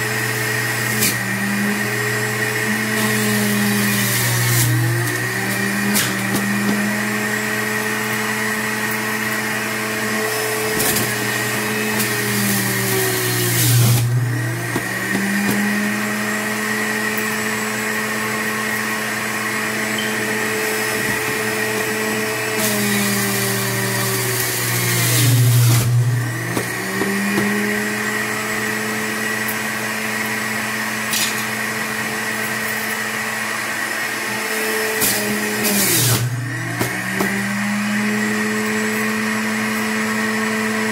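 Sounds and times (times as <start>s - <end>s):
juicer motor whirring: 0.0s - 40.9s.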